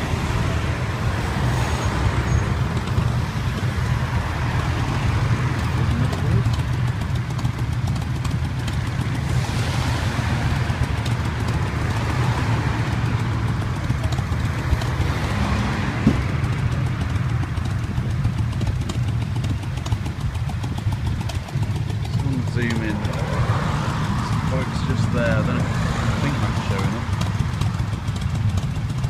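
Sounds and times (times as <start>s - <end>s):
motorcycle engines rumbling: 0.0s - 29.0s
motorcycle passing: 0.0s - 29.0s.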